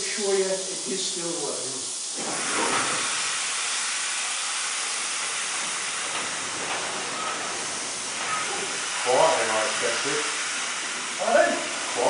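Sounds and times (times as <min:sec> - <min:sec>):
steam engine hissing: 0:00.0 - 0:12.0.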